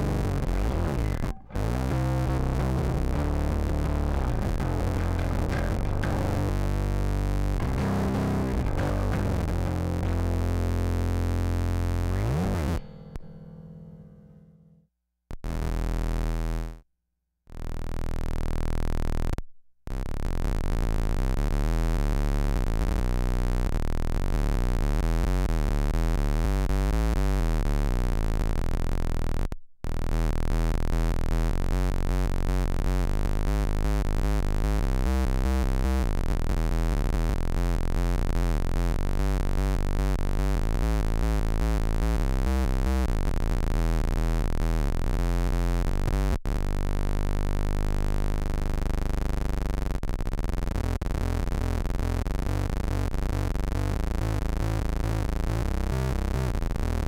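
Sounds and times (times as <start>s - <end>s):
buzzy square-wave synth tones: 0.0s - 14.4s, 17.5s - 57.0s.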